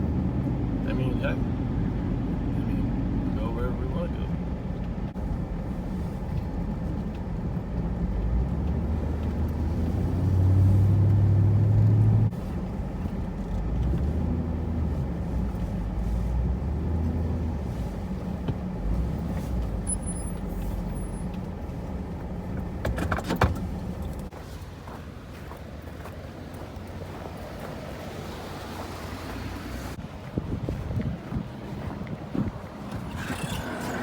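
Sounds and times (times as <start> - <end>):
truck engine and road noise: 0.0 - 34.0.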